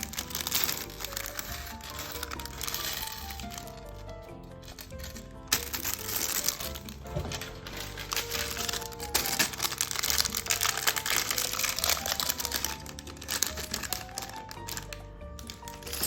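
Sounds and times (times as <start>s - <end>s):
background music with melody: 0.0s - 16.0s
plastic bags crinkling: 0.0s - 16.0s.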